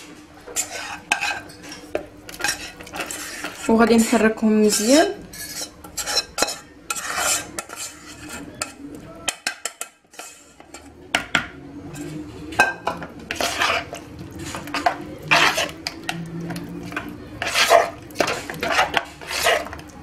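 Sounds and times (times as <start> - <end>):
spoon stirring in plastic bowl: 0.4 - 20.0.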